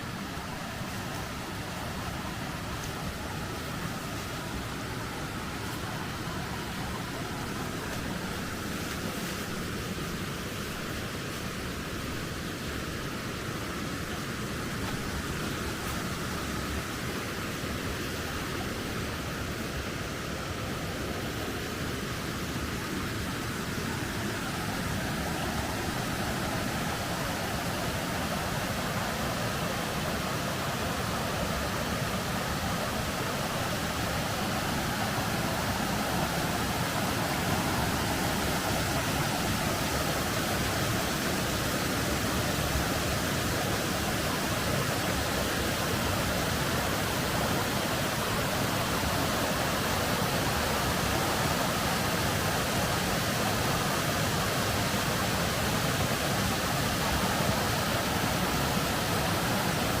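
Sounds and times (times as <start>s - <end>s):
waterfall rushing over rock: 0.0s - 60.0s.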